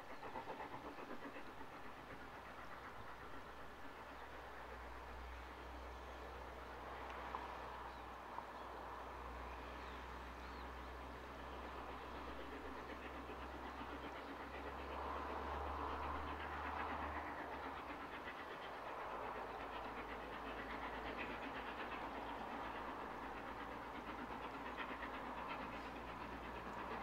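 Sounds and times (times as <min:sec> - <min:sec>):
distant steam locomotive rumble: 0:00.0 - 0:27.0.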